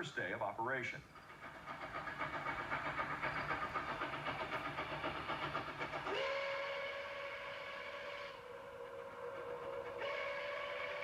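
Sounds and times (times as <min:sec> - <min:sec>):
steam locomotive exhaust chuffing: 0:00.0 - 0:11.0.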